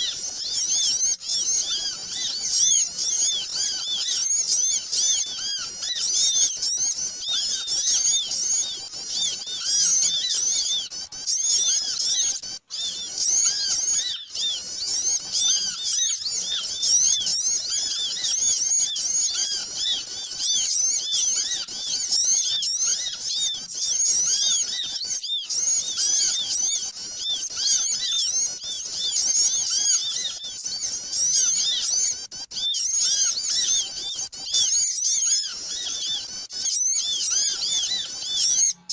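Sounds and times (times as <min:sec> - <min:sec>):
many small birds chirping: 0:00.0 - 0:38.9.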